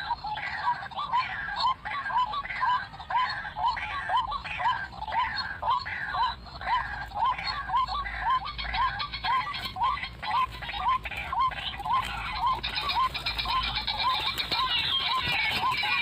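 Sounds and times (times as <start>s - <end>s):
waterhen repeated call: 0.0s - 16.0s.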